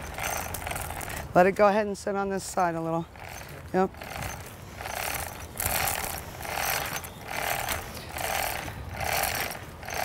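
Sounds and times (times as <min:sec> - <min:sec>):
hoist chain rattling and clicking: 0:00.0 - 0:01.6, 0:02.4 - 0:10.0.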